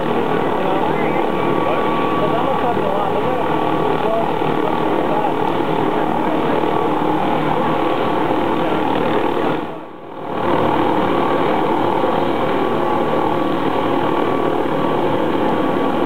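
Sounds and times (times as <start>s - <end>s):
helicopter running: 0.0s - 16.0s.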